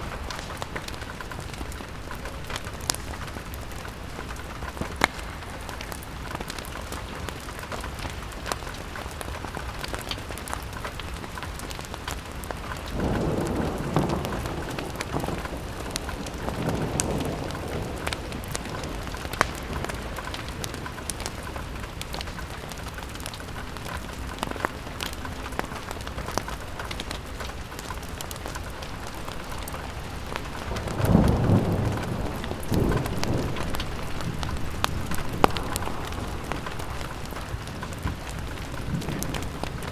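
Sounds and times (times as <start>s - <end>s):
fire crackling: 0.0s - 39.9s
rain ticking on window: 0.0s - 39.9s.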